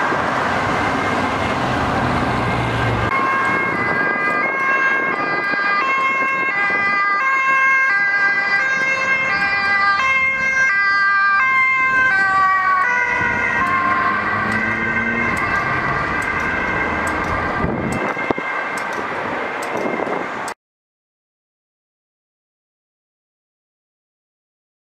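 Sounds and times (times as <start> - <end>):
two-tone ambulance siren: 0.0 - 20.5
vehicle engine and tyre noise: 0.0 - 20.6.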